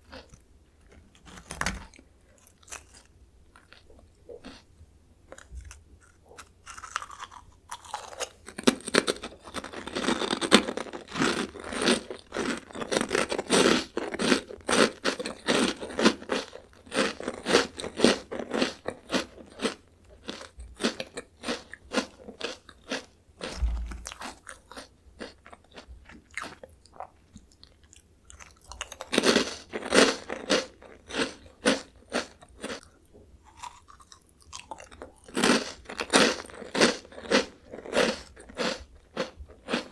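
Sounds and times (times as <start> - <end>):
crunching and chewing snack: 0.0 - 39.9.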